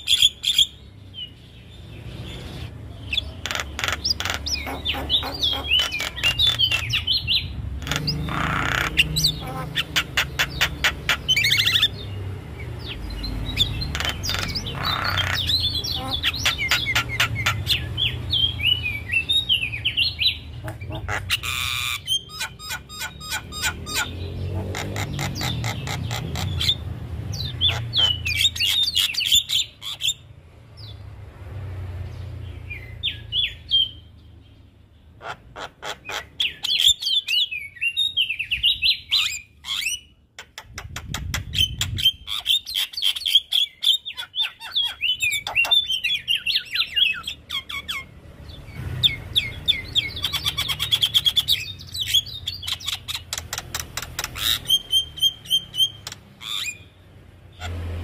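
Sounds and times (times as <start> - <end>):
bird calling and singing: 0.0 - 31.1, 32.0 - 58.0.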